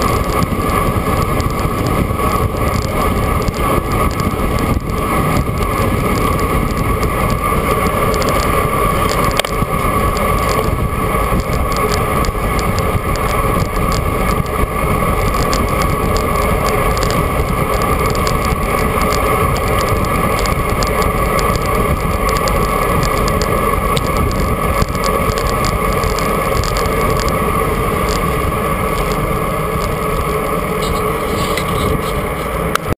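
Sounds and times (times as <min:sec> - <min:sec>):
wind rushing: 0:00.0 - 0:32.7
bicycle rolling noise: 0:00.0 - 0:32.9
constant hum: 0:00.0 - 0:32.9.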